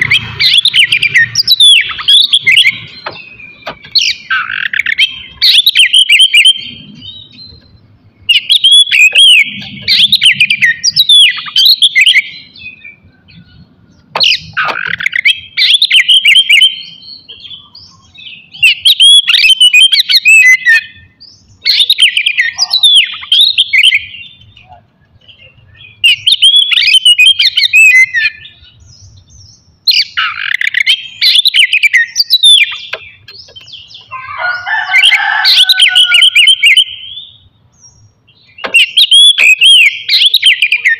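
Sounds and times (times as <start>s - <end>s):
bird singing whistles and chirps: 0.0s - 40.9s.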